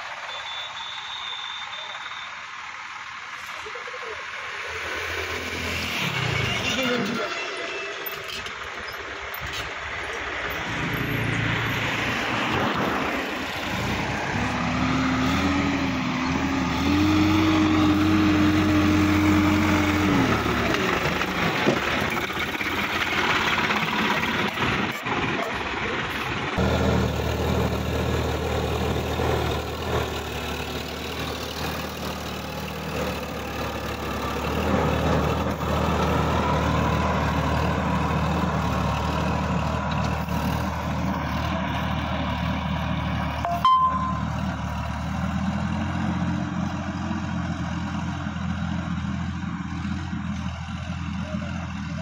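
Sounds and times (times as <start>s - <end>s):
tractor diesel engine running: 0.0s - 5.4s, 6.7s - 52.0s.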